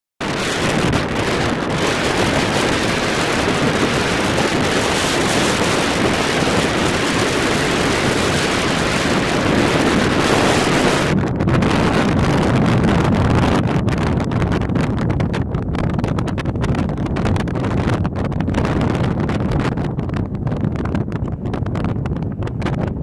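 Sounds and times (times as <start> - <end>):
wind blowing across microphone: 0.2 - 23.0.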